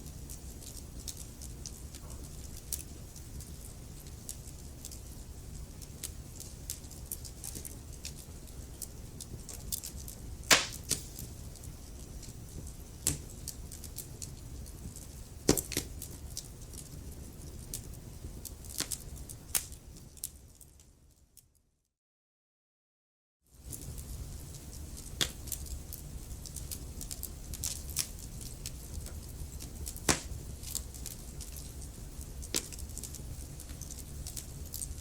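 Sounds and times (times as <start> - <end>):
wood fire crackling: 0.0 - 21.0, 23.5 - 35.0.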